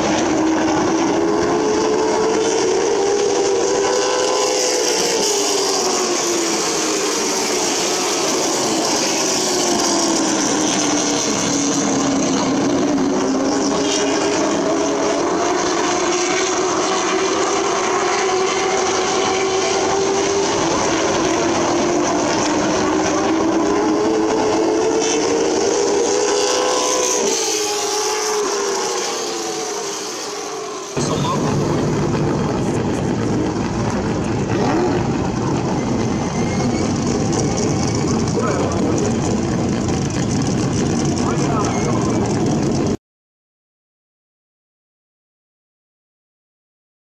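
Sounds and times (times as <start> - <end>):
stock car engines racing: 0.0 - 43.0.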